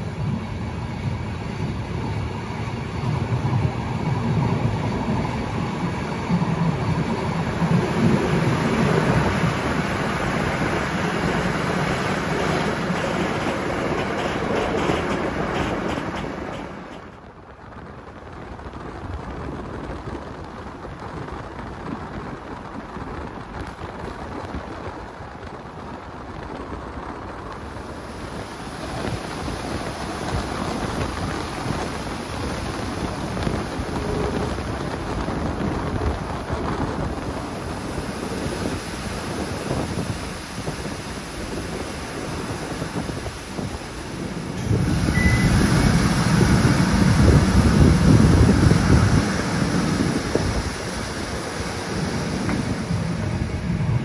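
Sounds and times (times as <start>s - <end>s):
train wheels rumbling on rails: 0.0s - 54.0s
wind rushing past: 0.0s - 54.0s.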